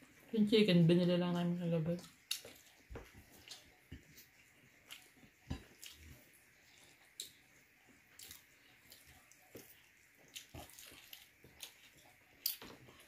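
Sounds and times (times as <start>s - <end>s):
chewing and lip smacks: 2.0s - 13.0s.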